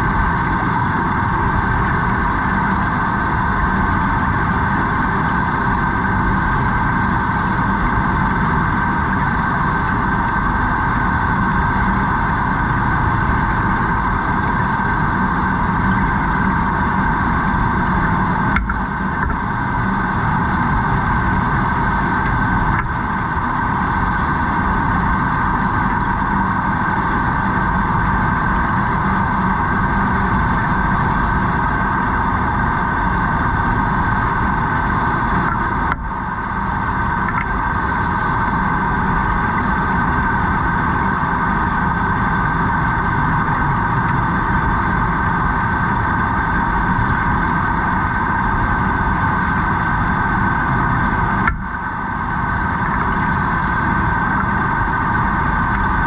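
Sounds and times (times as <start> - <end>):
underwater mechanical drone: 0.0 - 56.0.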